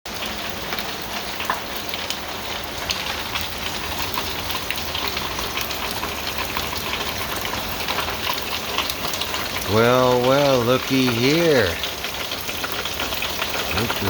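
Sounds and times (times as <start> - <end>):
rain falling: 0.1 - 14.0
raindrops ticking: 0.1 - 14.0.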